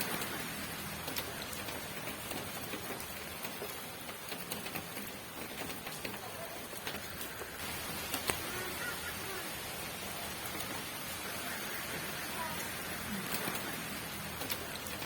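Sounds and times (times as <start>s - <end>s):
rain pattering on hard surface: 0.0s - 15.0s.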